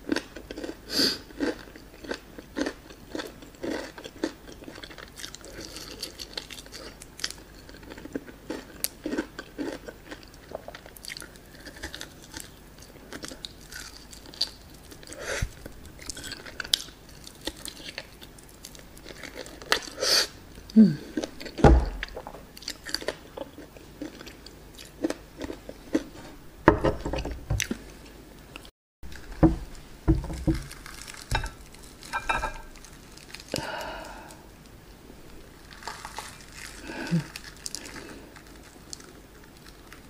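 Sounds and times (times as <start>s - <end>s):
chewing crunchy fried chicken: 0.0s - 26.2s, 30.3s - 34.4s, 35.4s - 40.0s.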